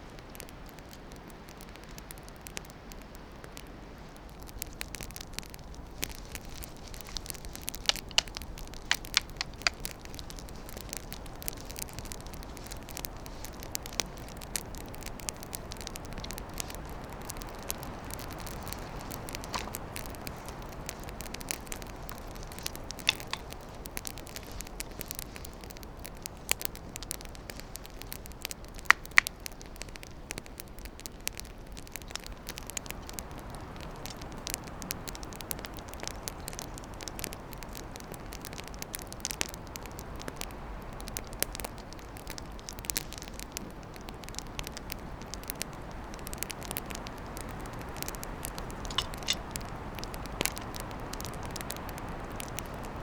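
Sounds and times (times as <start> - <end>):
sharp crackles and pops: 0.0 - 53.0
steady hiss: 0.0 - 53.0.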